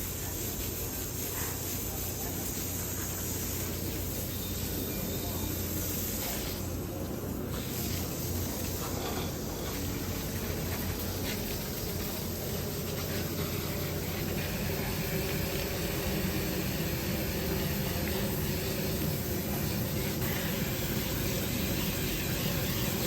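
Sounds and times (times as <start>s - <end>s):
pressure washer spraying water: 0.0s - 23.0s.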